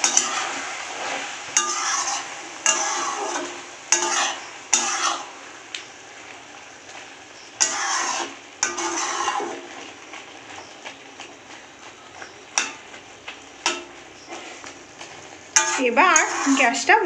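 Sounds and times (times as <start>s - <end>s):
spatula tapping pan: 0.0s - 0.6s, 1.5s - 6.0s, 6.8s - 17.0s
metal spatula scraping pan: 0.0s - 5.6s, 6.9s - 17.0s
faint steady hiss: 0.0s - 17.0s.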